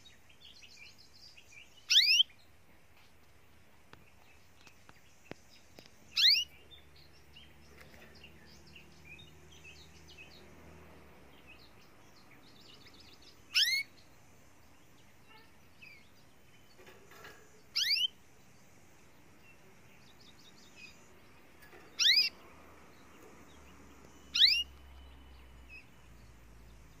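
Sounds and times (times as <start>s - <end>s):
faint bird chirps: 0.0s - 2.7s, 4.0s - 10.5s, 11.4s - 27.0s.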